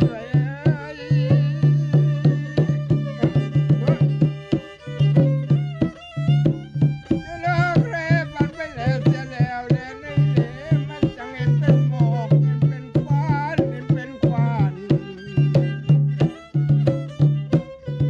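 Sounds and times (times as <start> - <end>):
hand drum beaten with palms: 0.0 - 18.0
violin melody with vibrato: 0.0 - 18.0.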